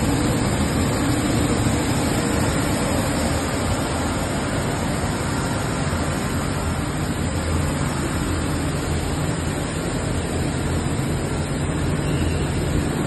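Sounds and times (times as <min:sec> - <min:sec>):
dense machine noise: 0:00.0 - 0:13.0.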